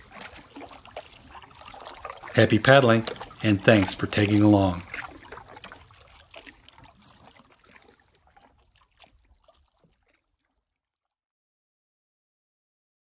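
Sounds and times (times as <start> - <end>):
canoe paddle through water: 0.0 - 10.9
water drips and splashes: 0.0 - 11.1.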